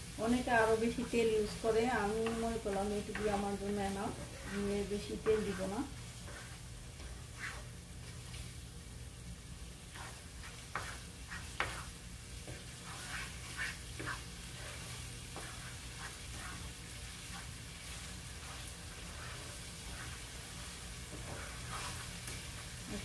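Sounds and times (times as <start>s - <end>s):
low sizzle: 0.0s - 23.0s
wooden spatula scraping pan: 0.7s - 8.2s, 9.9s - 23.0s.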